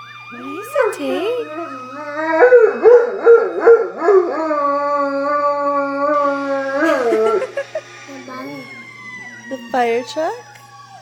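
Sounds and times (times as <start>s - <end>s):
dog howling: 0.0s - 11.0s.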